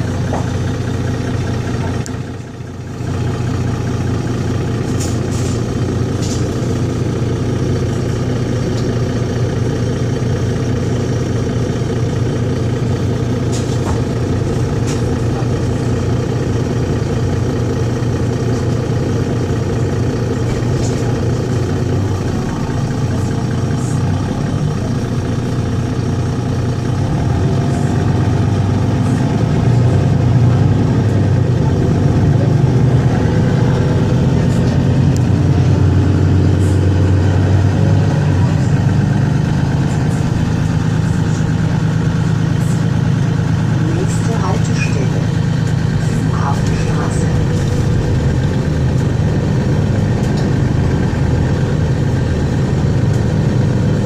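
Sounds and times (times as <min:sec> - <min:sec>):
bus diesel engine humming: 0:00.0 - 0:54.0.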